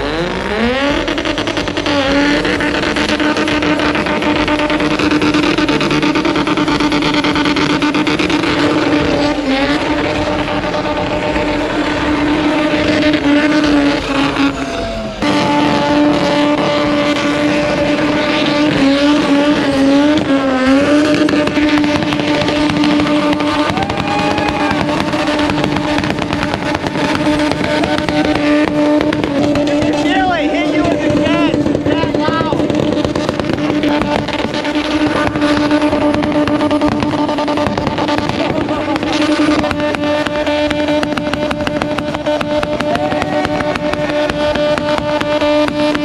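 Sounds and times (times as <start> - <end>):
exhaust crackling pops: 0.0 - 46.0
truck engine at high revs: 0.0 - 46.0.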